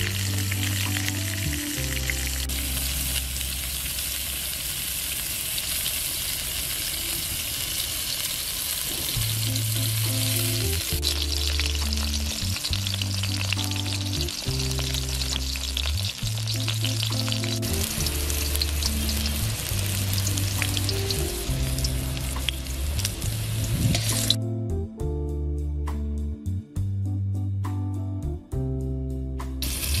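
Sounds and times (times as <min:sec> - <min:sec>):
background music of low notes: 0:00.0 - 0:04.2, 0:09.1 - 0:30.0
hot oil sizzling and popping: 0:00.0 - 0:24.4, 0:29.6 - 0:30.0.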